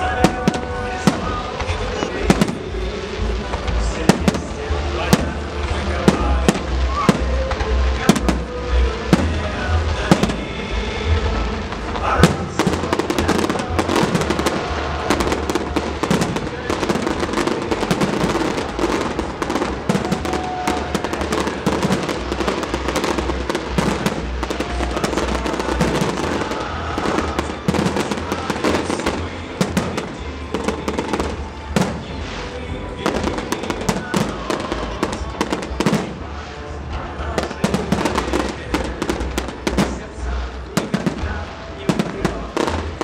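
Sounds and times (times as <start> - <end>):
crackling fireworks stars: 0.0 - 43.0.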